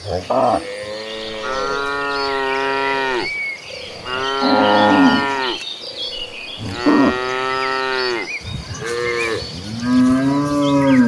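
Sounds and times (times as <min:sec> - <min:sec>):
cows mooing: 0:00.0 - 0:05.6, 0:06.2 - 0:11.0.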